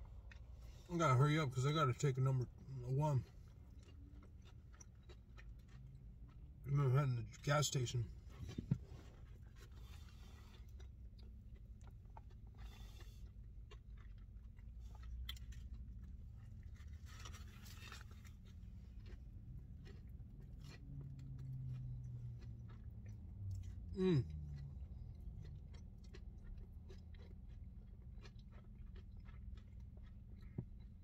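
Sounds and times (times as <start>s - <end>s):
low steady hum: 0.0s - 31.0s
person chewing crispy food: 0.0s - 31.0s.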